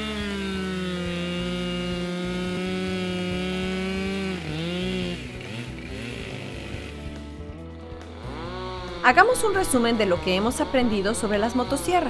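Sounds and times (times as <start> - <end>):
chainsaw cutting log: 0.0 - 12.0.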